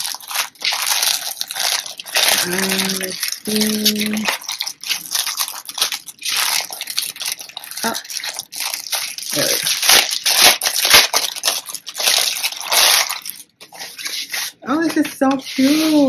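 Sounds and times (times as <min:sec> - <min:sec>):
plastic bag crinkling: 0:00.0 - 0:14.6.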